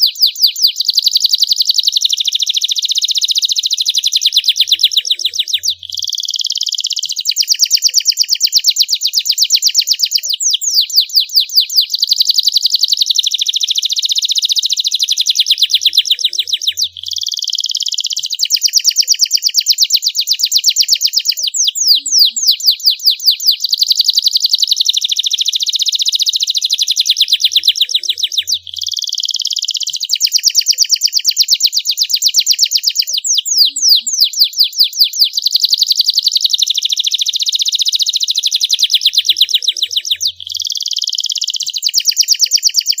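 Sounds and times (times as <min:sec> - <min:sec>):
canary singing trills: 0:00.0 - 0:43.0.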